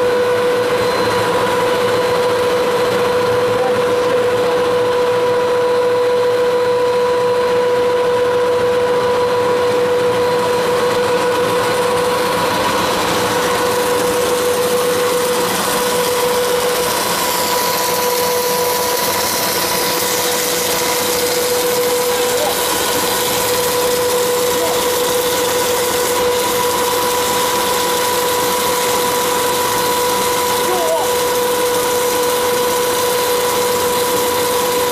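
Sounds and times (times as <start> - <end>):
loud mechanical hum: 0.0 - 34.9
motor whine: 0.0 - 34.9.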